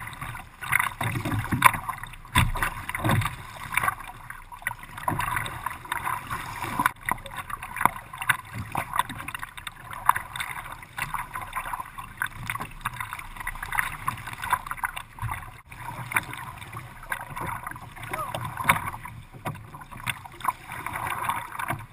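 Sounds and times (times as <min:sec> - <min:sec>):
paddle strokes splashing: 0:00.0 - 0:21.9
water slapping against hull: 0:00.0 - 0:21.9.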